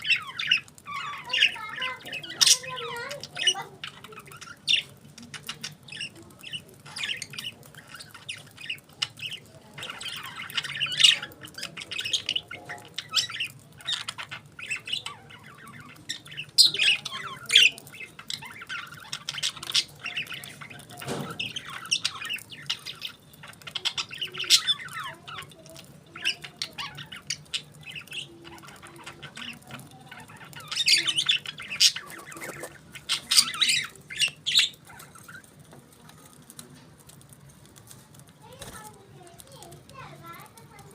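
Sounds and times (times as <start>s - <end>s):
budgies chirping and squawking: 0.0s - 40.9s.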